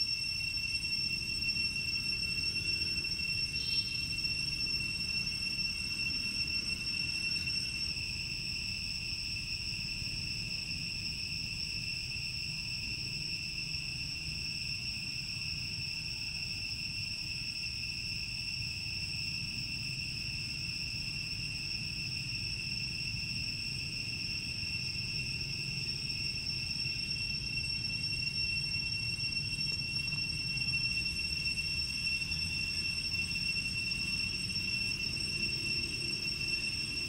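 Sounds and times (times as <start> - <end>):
insects shrilling: 0.0 - 37.0.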